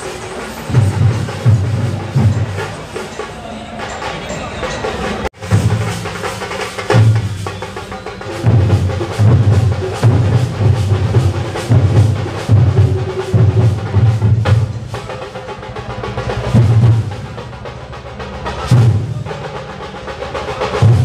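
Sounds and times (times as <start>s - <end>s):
drums beaten with sticks: 0.0s - 21.0s.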